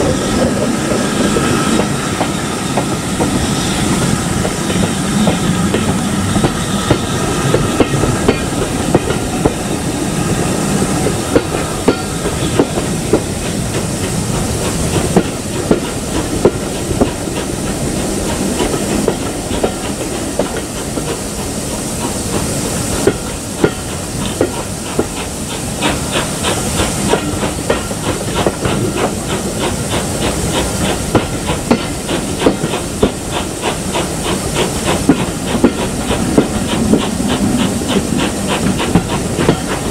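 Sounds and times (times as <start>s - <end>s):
hiss of steam: 0.0s - 39.9s
train wheels clicking over rail joints: 0.0s - 39.9s.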